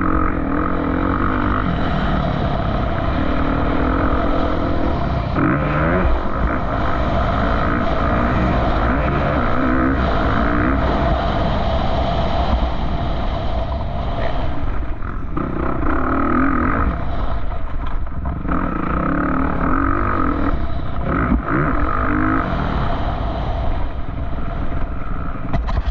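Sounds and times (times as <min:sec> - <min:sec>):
off-road vehicle engine revving: 0:00.0 - 0:25.9.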